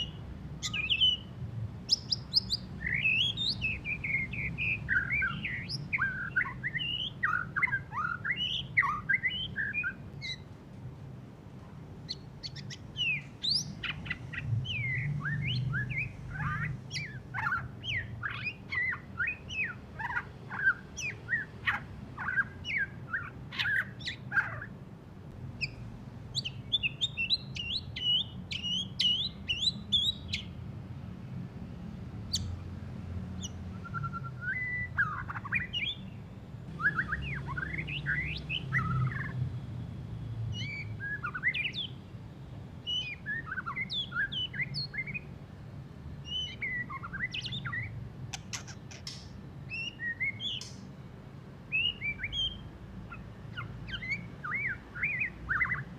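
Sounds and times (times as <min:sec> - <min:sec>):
songbird chirping and whistling: 0:00.0 - 0:10.5, 0:12.1 - 0:24.8, 0:25.6 - 0:30.6, 0:32.3 - 0:32.6, 0:33.4 - 0:39.4, 0:40.5 - 0:42.1, 0:42.8 - 0:45.4, 0:46.2 - 0:51.0, 0:51.6 - 0:55.9.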